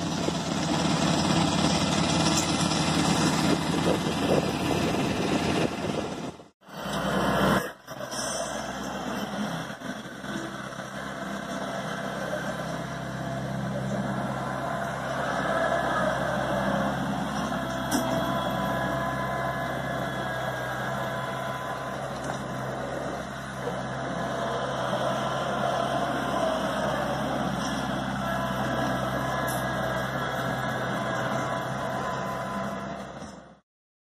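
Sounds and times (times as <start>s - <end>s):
tractor diesel engine running: 0.0s - 33.6s.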